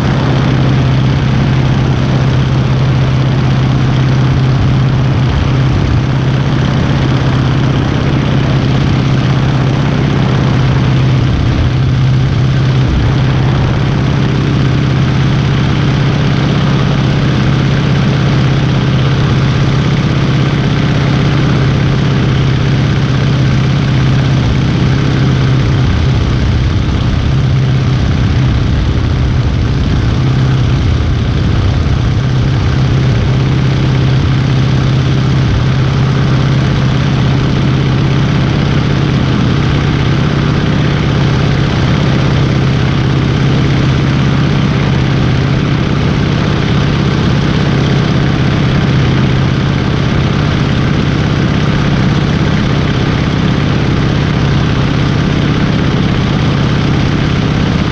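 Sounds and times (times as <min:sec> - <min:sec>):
airplane engine drone: 0:00.0 - 0:57.9.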